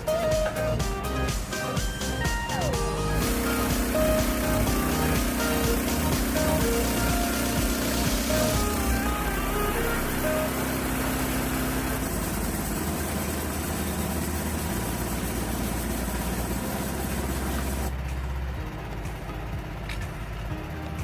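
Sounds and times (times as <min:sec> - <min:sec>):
engine rumble: 0:00.0 - 0:21.0.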